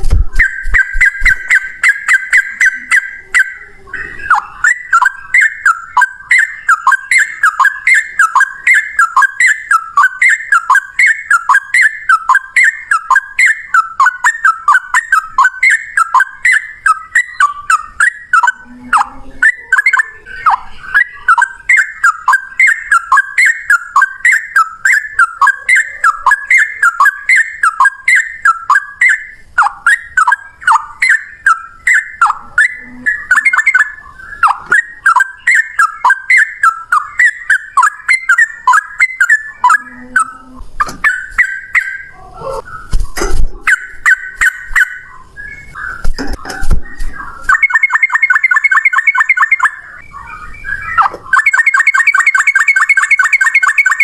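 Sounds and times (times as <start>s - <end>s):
rough low bird notes: 0.0s - 48.4s
bird singing whistled phrases: 0.0s - 54.0s.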